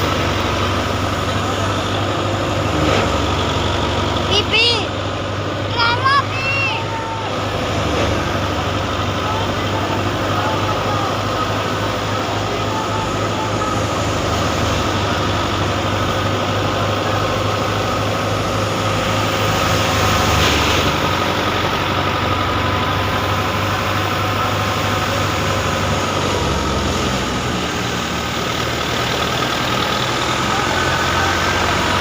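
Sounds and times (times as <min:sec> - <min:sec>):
farm machinery engine running: 0:00.0 - 0:32.0.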